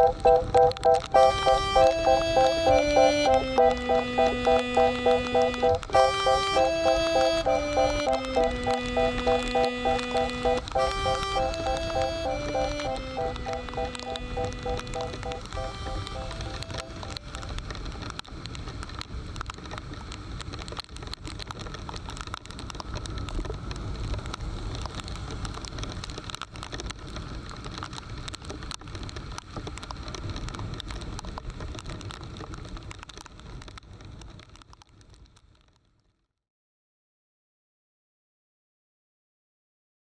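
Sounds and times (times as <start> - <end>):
raindrops ticking on microphone: 0.0 - 36.2.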